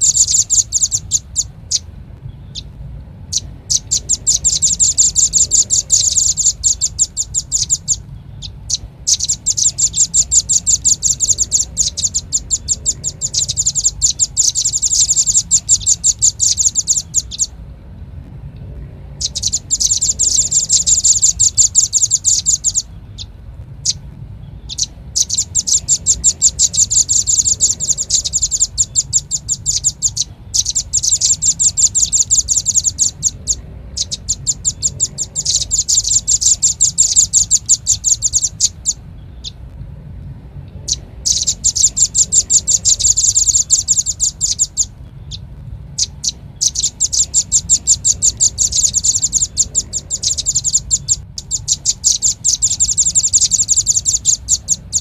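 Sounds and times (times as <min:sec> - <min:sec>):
bird calling rapid high notes: 0:00.0 - 0:02.7, 0:03.3 - 0:17.6, 0:19.1 - 0:39.6, 0:40.8 - 0:55.0
faint low hum: 0:00.0 - 0:55.0.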